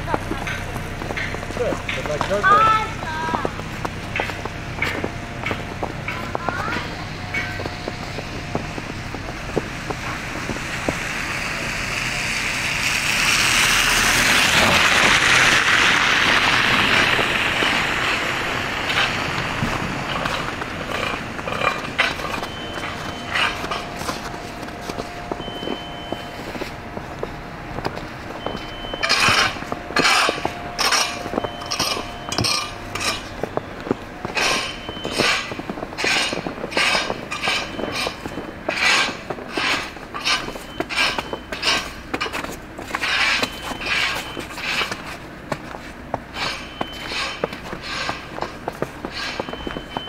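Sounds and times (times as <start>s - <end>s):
footsteps crunching through snow: 0.0s - 50.0s
vehicle tyres hissing on slush: 5.8s - 33.6s, 34.2s - 50.0s.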